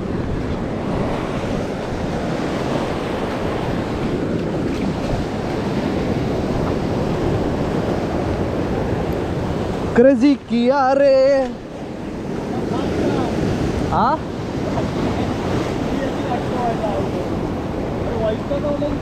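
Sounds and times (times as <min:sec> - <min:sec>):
surf breaking on rocky shore: 0:00.0 - 0:19.0
wind buffeting microphone: 0:00.0 - 0:19.0.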